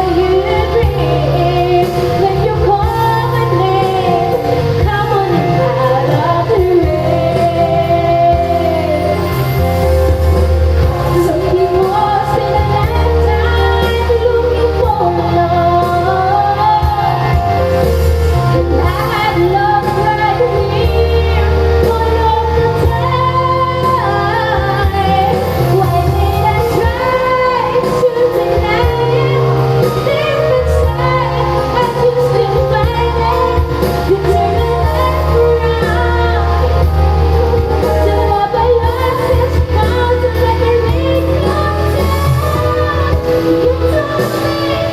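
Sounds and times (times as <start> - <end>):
woman singing: 0.0 - 10.1, 10.7 - 44.9
band accompaniment with bass: 0.0 - 44.9.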